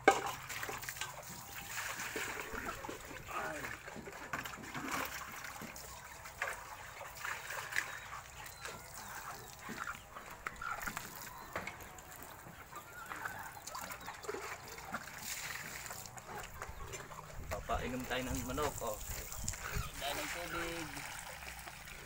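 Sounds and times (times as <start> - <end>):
chickens clucking: 0.0 - 22.0
water splashing in a bucket: 0.0 - 22.0.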